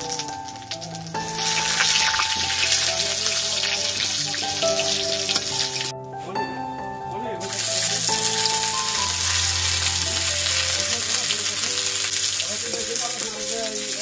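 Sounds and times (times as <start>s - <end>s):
oil sizzling: 0.0s - 5.9s, 7.4s - 14.0s
background music with held notes: 0.0s - 14.0s.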